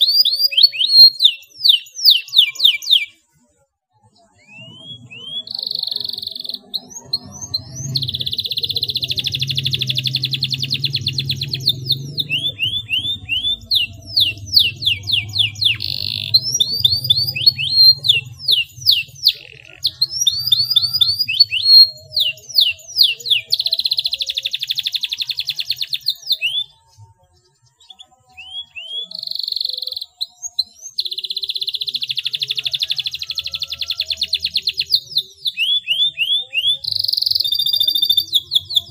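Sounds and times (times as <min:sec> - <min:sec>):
canary singing: 0:00.0 - 0:03.5, 0:04.1 - 0:38.9.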